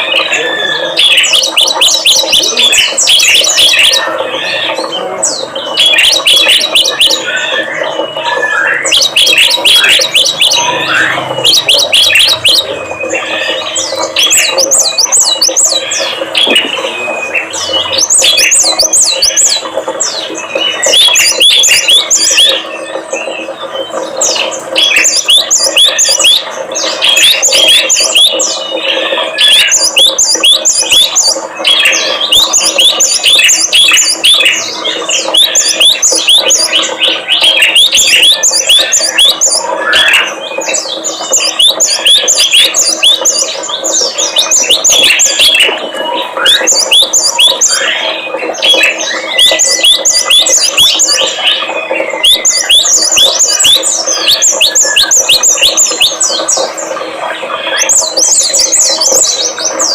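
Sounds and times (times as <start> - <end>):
songbirds chirping and chattering: 0.0 - 59.9.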